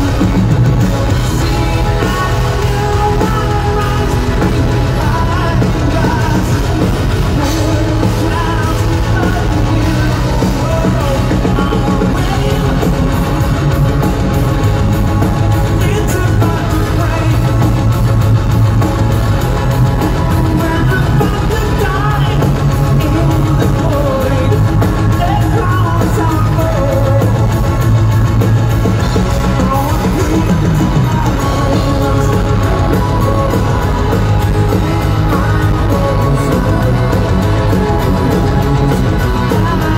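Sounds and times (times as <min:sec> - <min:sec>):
bass: 0:00.0 - 0:39.9
distorted electric guitars: 0:00.0 - 0:39.9
drum kit: 0:00.0 - 0:39.9
keyboards: 0:00.0 - 0:39.9
lead vocals singing: 0:00.0 - 0:39.9.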